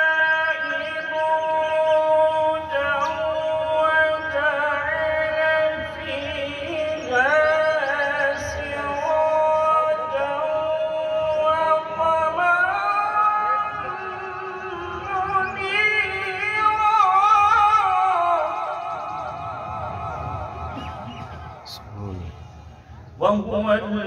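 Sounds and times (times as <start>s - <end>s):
man reciting melodically: 0.0s - 19.8s, 20.7s - 24.0s.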